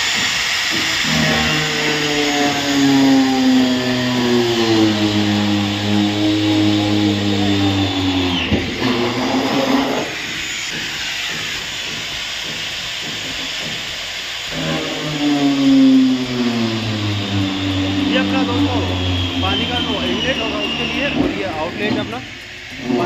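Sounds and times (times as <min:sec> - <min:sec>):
angle grinder motor whine: 0:00.0 - 0:12.0, 0:14.4 - 0:23.0
lower hazy grinding noise: 0:00.0 - 0:23.0.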